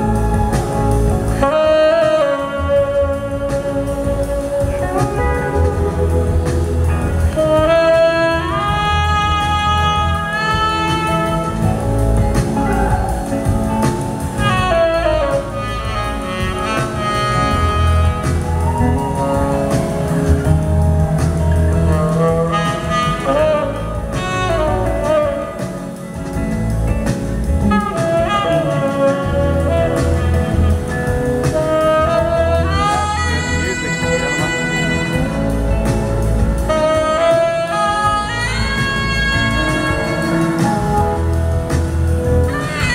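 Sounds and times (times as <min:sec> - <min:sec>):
bass line: 0:00.0 - 0:42.9
electric guitar: 0:00.0 - 0:42.9
saxophone solo: 0:00.0 - 0:42.9.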